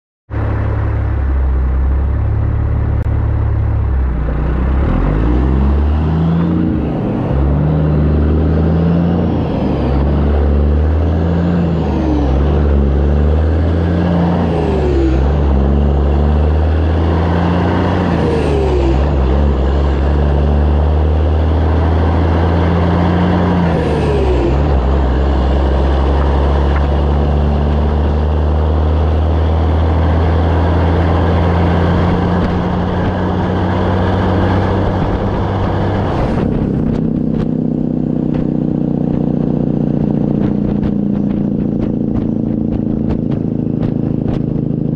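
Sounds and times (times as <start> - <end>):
diesel truck engine revving: 0.3 - 44.9.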